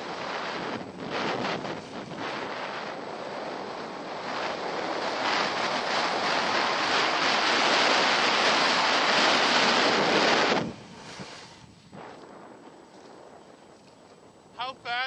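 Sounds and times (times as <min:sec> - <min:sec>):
snowboard sliding over snow: 0:00.0 - 0:14.3
wind rushing over microphone: 0:00.0 - 0:15.0.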